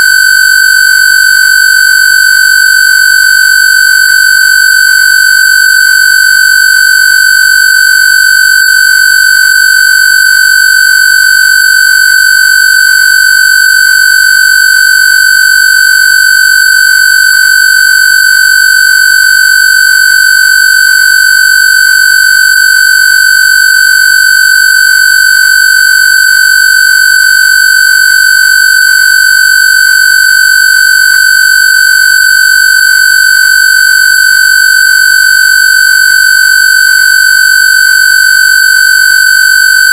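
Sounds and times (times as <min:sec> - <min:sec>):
high square-wave tone: 0:00.0 - 0:39.9.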